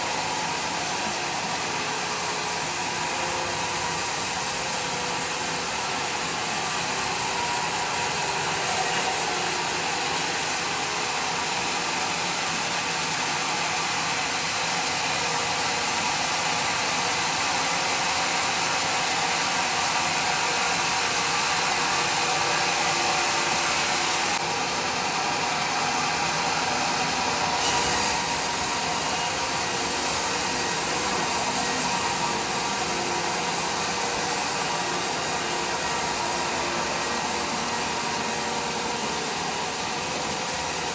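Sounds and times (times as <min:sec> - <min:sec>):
sawmill cutting a log: 0:00.0 - 0:14.0, 0:19.1 - 0:40.9.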